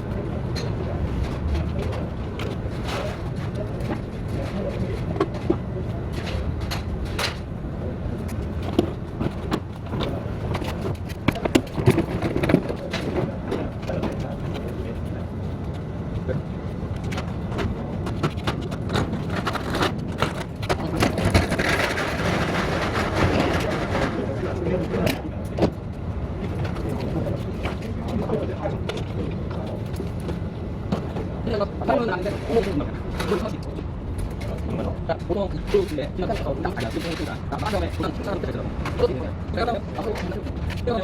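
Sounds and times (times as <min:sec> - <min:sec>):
street traffic rumble: 0:00.0 - 0:41.0.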